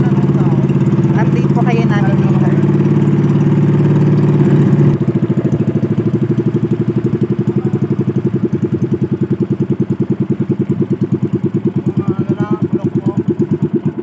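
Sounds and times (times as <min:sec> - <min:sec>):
boat engine putt-putt: 0:00.0 - 0:14.0.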